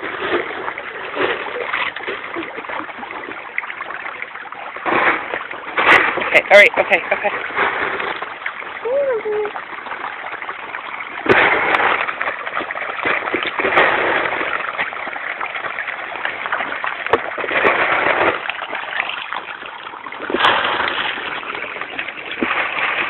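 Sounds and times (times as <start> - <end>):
fish splashing in water: 0.0 - 23.0.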